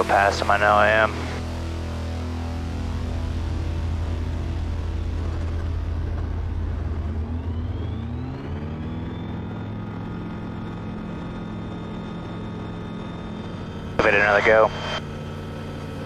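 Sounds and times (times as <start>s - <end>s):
light aircraft engine and propeller: 0.0s - 16.0s.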